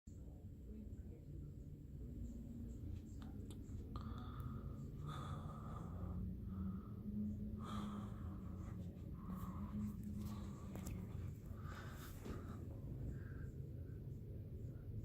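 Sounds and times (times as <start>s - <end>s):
ceiling fan motor hum: 0.1s - 15.0s.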